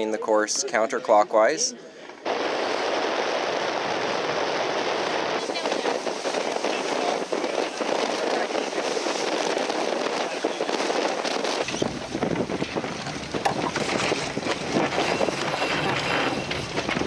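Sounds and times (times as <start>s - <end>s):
water rushing along boat hull: 1.9s - 17.0s
wind buffeting microphone: 2.0s - 17.0s.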